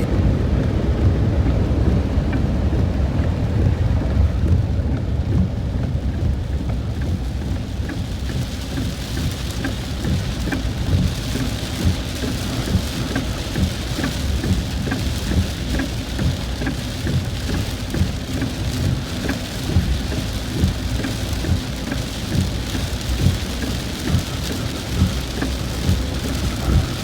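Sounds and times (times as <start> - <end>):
car rumbling on road: 0.0 - 27.0
rain ticking on car: 0.0 - 27.0.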